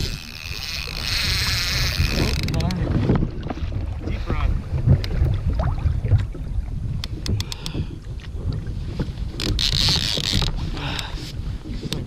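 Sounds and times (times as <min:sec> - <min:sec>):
water moving around kayak hull: 0:00.0 - 0:12.0
wind buffeting microphone: 0:00.0 - 0:12.0.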